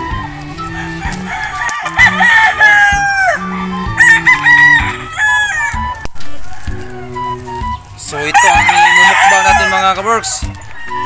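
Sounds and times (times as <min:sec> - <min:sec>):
roosters crowing: 0:00.0 - 0:11.0.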